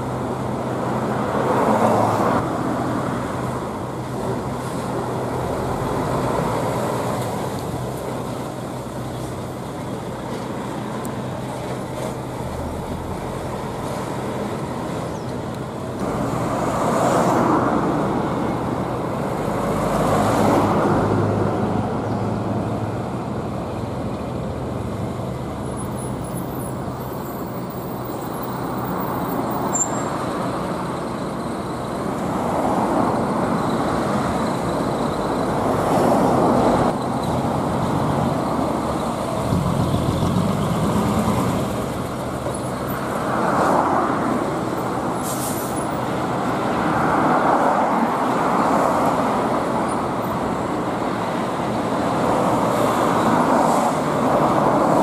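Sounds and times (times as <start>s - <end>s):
diesel trucks passing: 0.0s - 55.0s
traffic noise: 0.0s - 55.0s.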